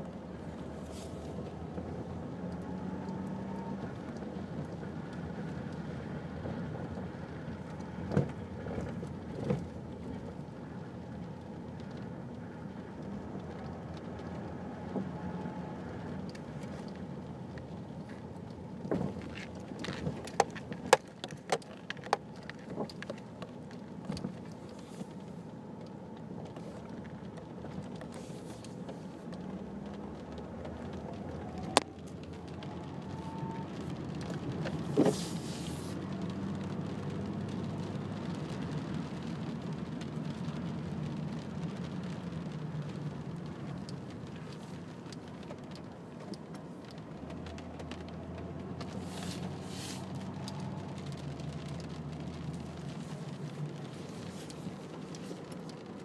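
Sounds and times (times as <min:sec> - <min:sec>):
road and engine noise: 0:00.0 - 0:56.0.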